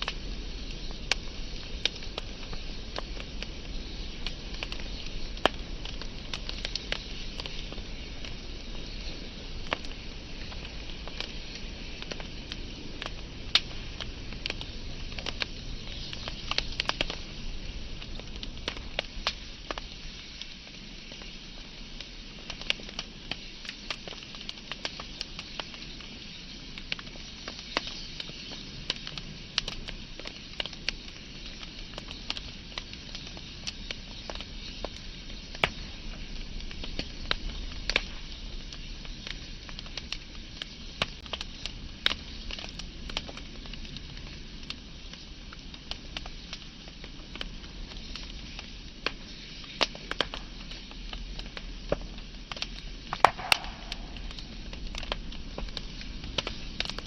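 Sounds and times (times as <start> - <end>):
fire hissing: 0.0 - 57.0
wood fire crackling and popping: 0.0 - 57.0.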